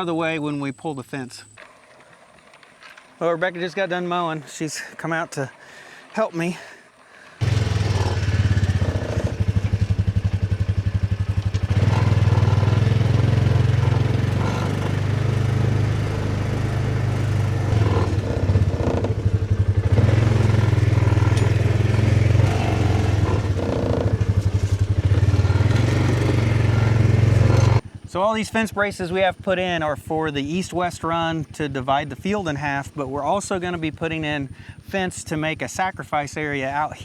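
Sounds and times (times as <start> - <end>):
engine exhaust pulsing: 1.4 - 37.0
engine clatter: 1.5 - 37.0.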